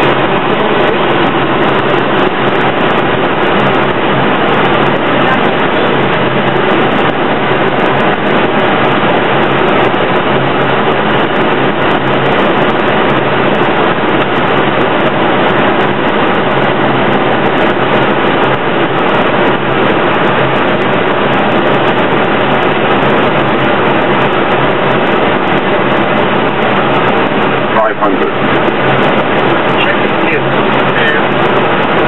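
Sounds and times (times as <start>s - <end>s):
faint low engine hum: 0.0s - 32.0s
loud airflow rush: 0.0s - 32.0s.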